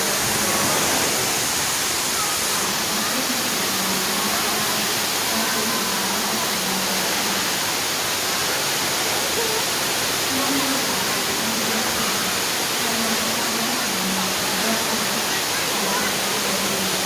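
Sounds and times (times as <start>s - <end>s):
faint voices: 0.0s - 17.0s
waterfall rushing: 0.0s - 17.0s.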